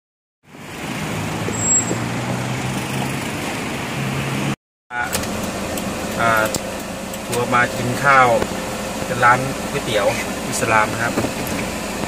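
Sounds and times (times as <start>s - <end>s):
street traffic: 0.4s - 12.0s
vehicle engine humming: 0.5s - 12.0s.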